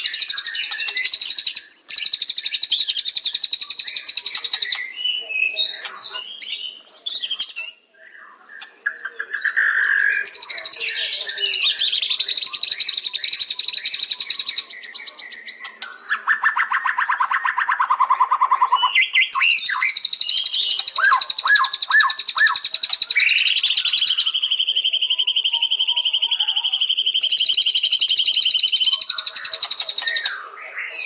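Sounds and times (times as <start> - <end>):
bird singing trills: 0.0 - 31.0.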